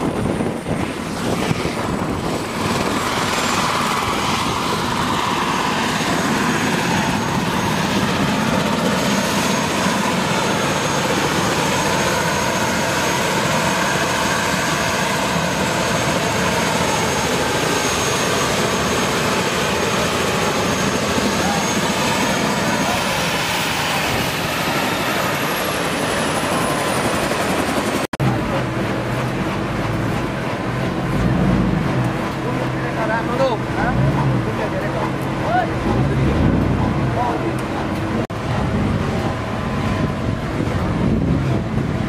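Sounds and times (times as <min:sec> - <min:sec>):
helicopter rotor and engine noise: 0:00.0 - 0:42.0
high turbine whine: 0:00.0 - 0:42.0.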